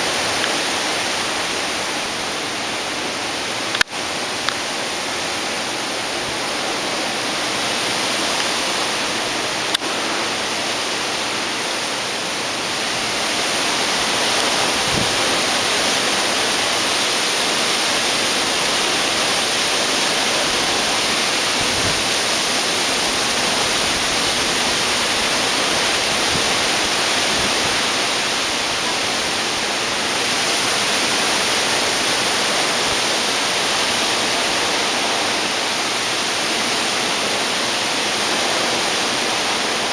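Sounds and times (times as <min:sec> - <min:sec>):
hurricane wind and rain rushing: 0:00.0 - 0:39.9.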